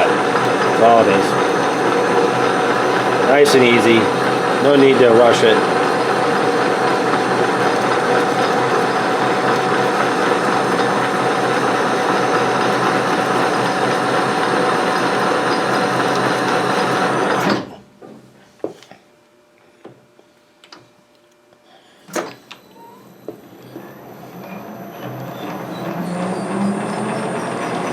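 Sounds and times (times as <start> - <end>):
metal lathe gears whirring: 0.0 - 17.5, 22.8 - 27.9.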